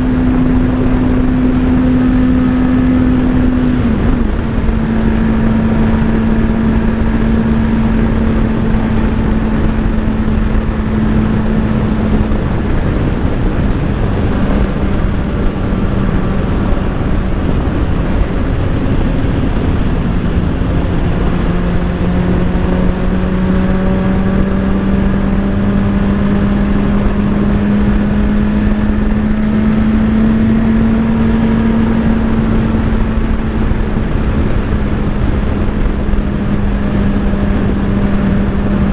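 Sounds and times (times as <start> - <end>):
loud rushing noise: 0.0 - 38.9
motorcycle engine cruising: 0.0 - 38.9.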